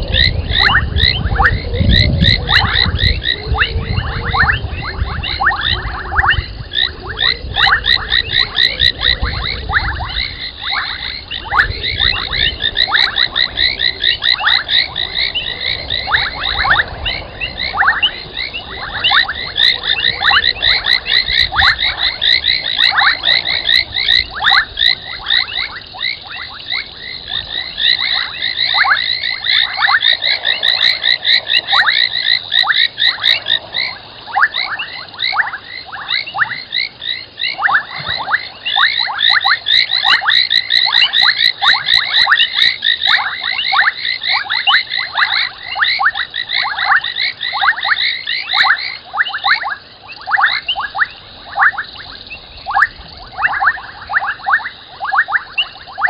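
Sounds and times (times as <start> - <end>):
frogs calling: 0.0 - 56.0.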